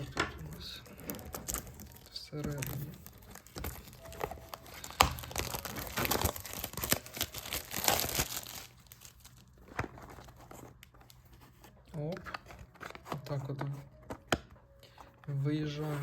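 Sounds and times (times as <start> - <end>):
cardboard box being opened: 0.0 - 14.4
packaging crinkling and tearing: 0.0 - 14.4.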